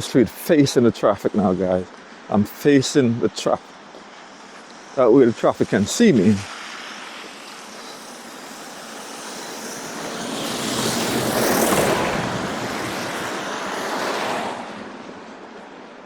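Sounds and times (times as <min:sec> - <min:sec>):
tyres hissing through snow: 0:00.0 - 0:15.8.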